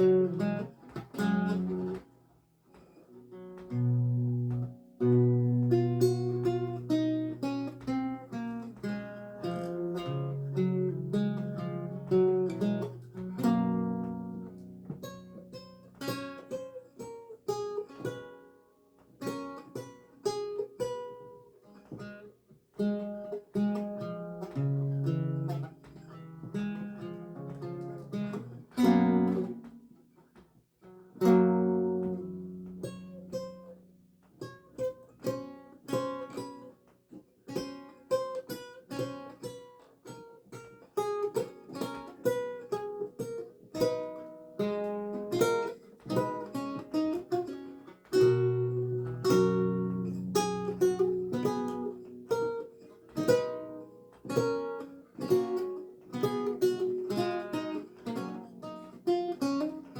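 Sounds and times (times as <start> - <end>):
lute strummed chords: 0.0 - 2.1, 2.7 - 18.6, 19.2 - 36.9, 37.5 - 59.9
lute picked notes: 0.0 - 59.9.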